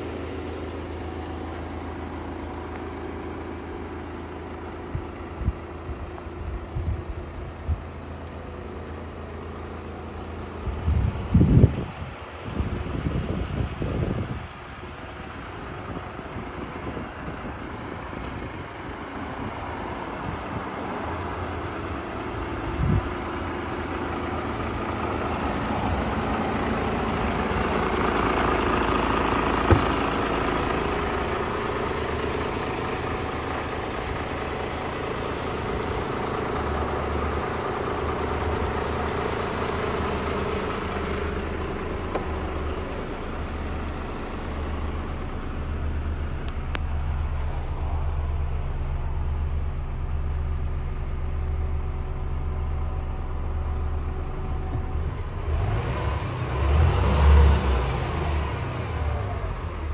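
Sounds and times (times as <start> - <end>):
diesel truck idling: 0.0 - 59.9.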